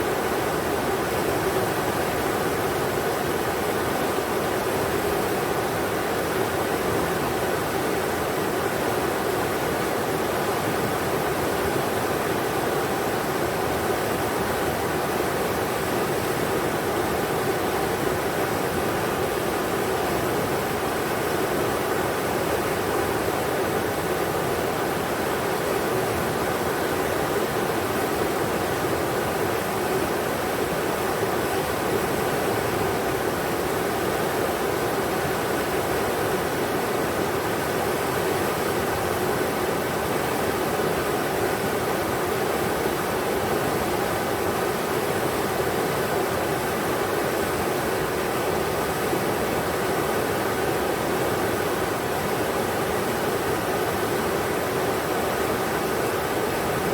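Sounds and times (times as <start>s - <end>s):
river water rushing over rocks: 0.0s - 56.9s.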